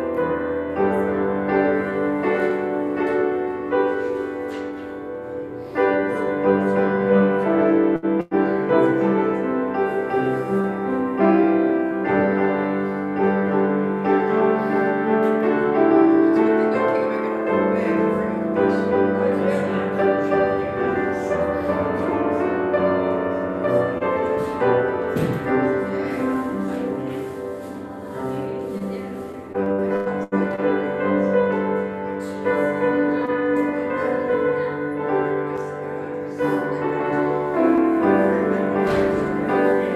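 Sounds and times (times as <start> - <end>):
slow piano chords: 0.0 - 39.9.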